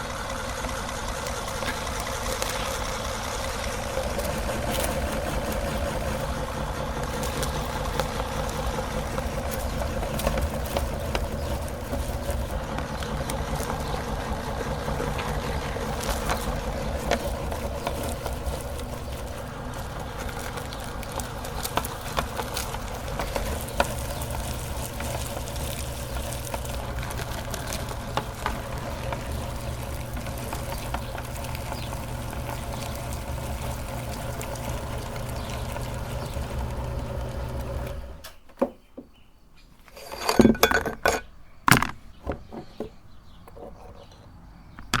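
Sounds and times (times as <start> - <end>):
electric meat grinder running: 0.0 - 38.2.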